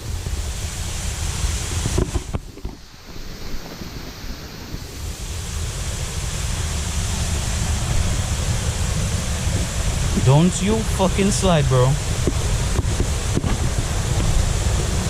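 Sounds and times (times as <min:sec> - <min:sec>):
wind buffeting microphone: 0:00.0 - 0:10.8, 0:12.0 - 0:15.0
waterfall rushing: 0:00.0 - 0:15.0.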